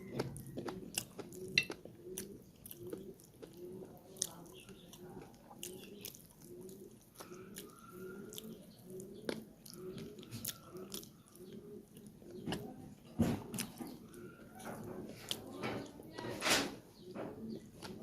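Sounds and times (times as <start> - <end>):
wet chewing: 0.0 - 16.3, 17.0 - 18.0.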